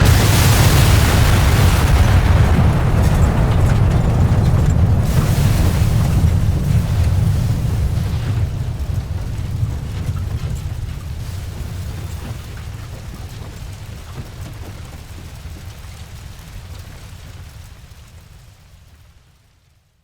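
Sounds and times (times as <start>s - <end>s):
deep crash rumble: 0.0s - 16.4s
debris crackle: 0.0s - 19.0s.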